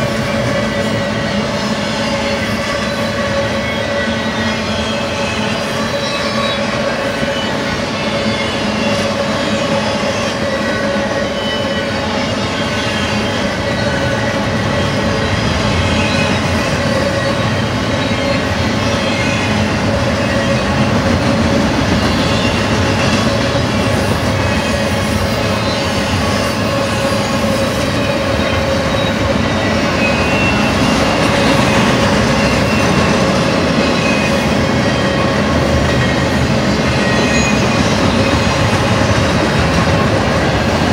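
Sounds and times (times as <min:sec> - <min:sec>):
train wheels rumbling on rail: 0:00.0 - 0:40.9
wheel squeal: 0:00.2 - 0:20.9, 0:22.0 - 0:40.9.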